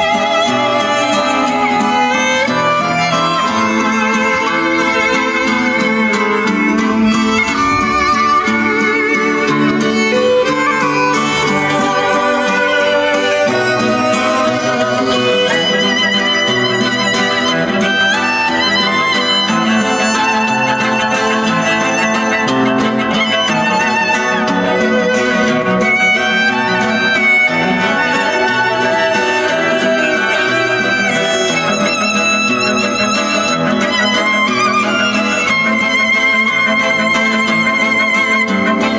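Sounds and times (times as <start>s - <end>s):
guitar accompaniment: 0.0s - 38.9s
violin melody: 0.0s - 38.9s.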